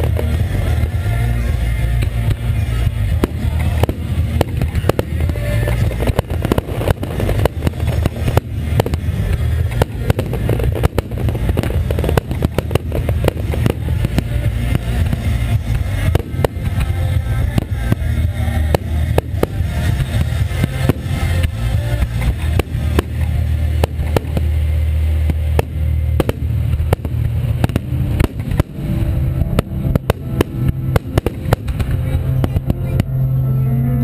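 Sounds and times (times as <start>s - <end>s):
firework shells bursting: 0.0s - 33.1s
low rumble: 0.0s - 34.0s.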